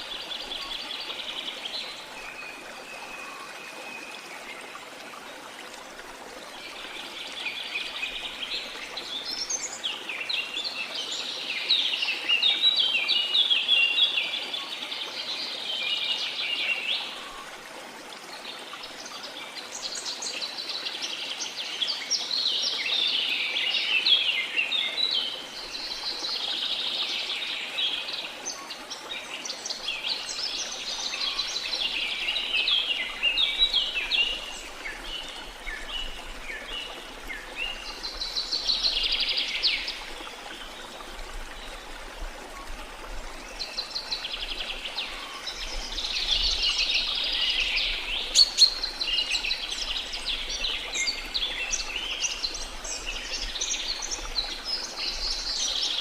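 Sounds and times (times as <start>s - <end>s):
faint rush of water: 0.0s - 56.0s.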